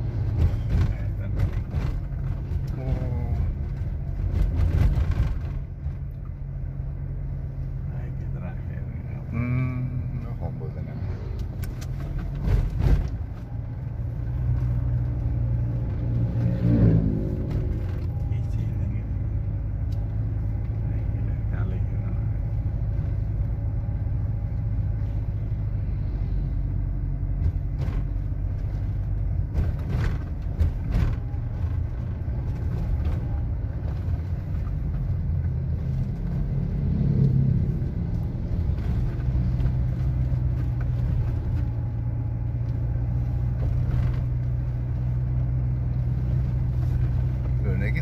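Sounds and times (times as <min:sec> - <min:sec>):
road noise: 0:00.0 - 0:48.0
vehicle engine rumble: 0:00.0 - 0:48.0.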